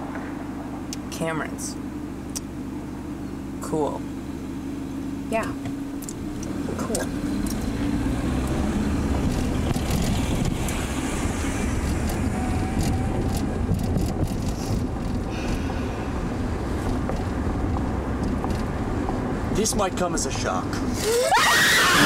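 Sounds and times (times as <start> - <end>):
road noise inside car: 0.0 - 22.0.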